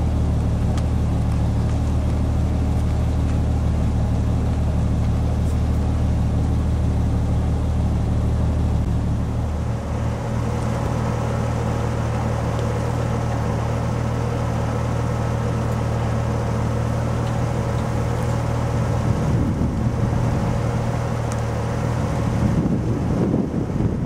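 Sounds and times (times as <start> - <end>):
rough rumbling noise: 0.0 - 24.0
vehicle engine idling: 0.0 - 24.0.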